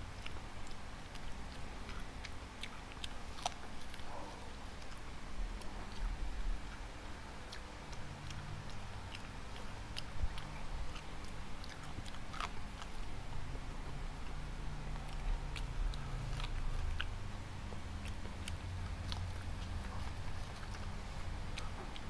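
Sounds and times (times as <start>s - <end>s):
person chewing and biting: 0.1s - 22.0s.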